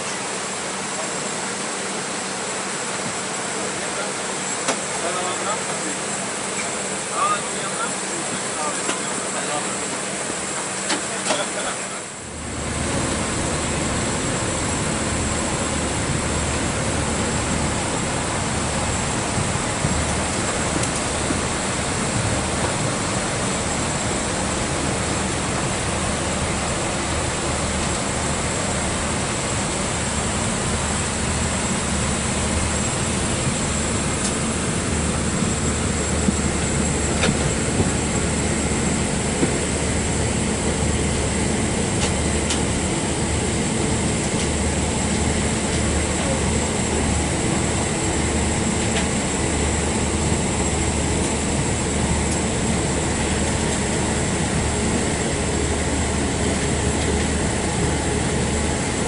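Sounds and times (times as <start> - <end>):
low engine hum and rumble: 0.0 - 59.0.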